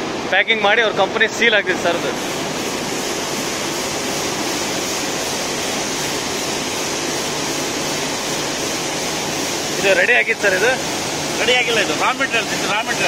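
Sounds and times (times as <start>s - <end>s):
mill machinery running: 0.0s - 13.0s.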